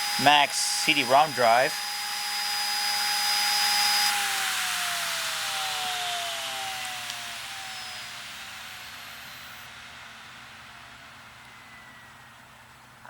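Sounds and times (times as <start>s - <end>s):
disc drive motor whine spinning down: 0.0s - 12.7s.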